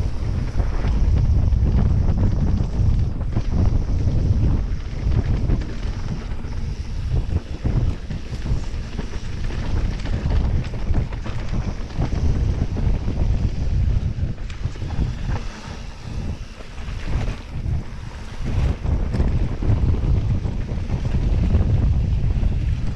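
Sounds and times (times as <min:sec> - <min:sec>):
bike knocks and rattles: 0:00.0 - 0:22.9
tyres rumbling on dirt: 0:00.0 - 0:22.9
wind buffeting microphone: 0:00.0 - 0:22.9.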